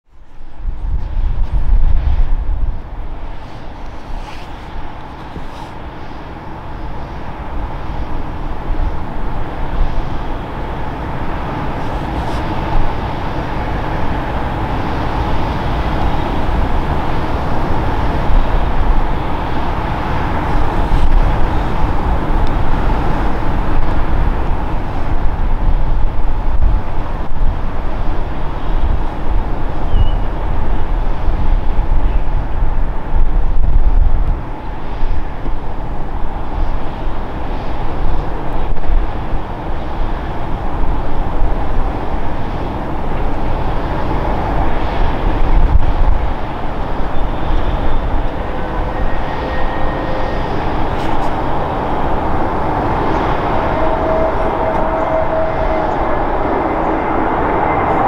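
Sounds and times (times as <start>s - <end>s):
jet engine whine: 0.1s - 58.0s.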